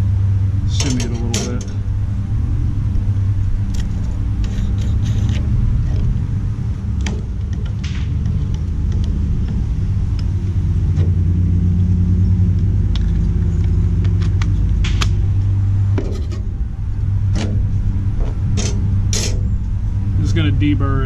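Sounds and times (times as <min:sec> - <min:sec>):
loud low rumble with hum: 0:00.0 - 0:21.0.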